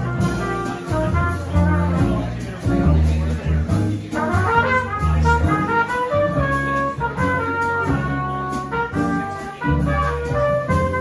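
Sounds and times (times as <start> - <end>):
trumpet playing short notes: 0.0 - 2.3, 4.1 - 11.0
drum kit with cymbals: 0.0 - 11.0
upright bass: 0.0 - 11.0.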